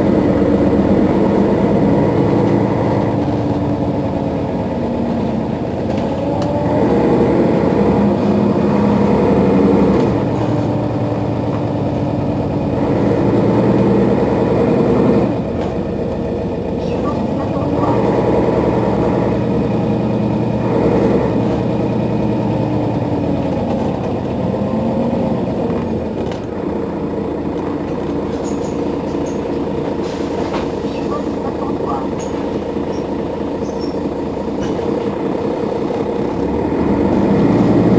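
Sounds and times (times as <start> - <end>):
bus engine idling: 0.0 - 37.9.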